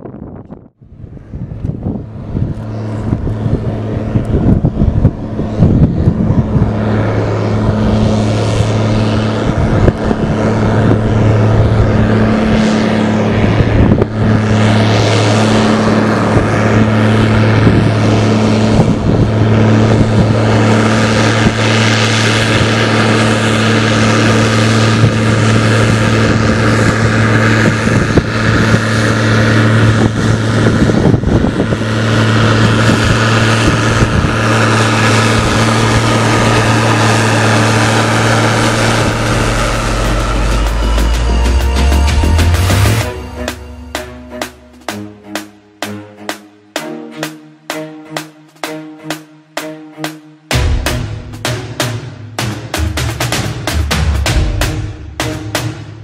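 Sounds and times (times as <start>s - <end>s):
tractor diesel engine under load: 1.0s - 49.0s.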